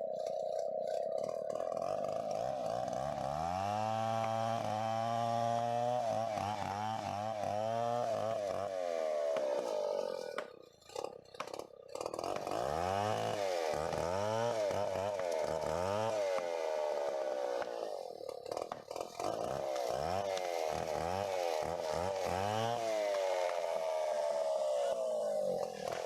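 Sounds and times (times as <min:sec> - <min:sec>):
chainsaw running at high revs: 0:00.0 - 0:26.0.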